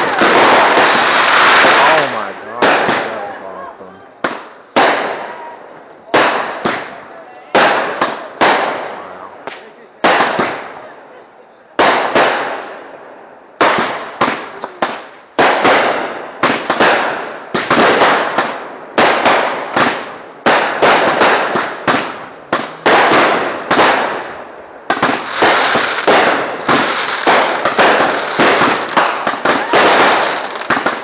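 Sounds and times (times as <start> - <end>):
fireworks bangs and crackle: 0.0 - 3.4, 4.2 - 10.9, 11.7 - 31.0.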